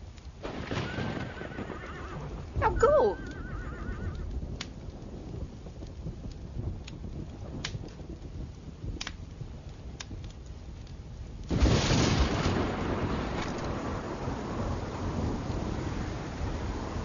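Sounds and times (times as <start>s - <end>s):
low thunder rumble: 0.0s - 17.0s
sharp crackles: 0.0s - 17.0s
loud thunderclap: 0.4s - 9.1s, 11.5s - 17.0s.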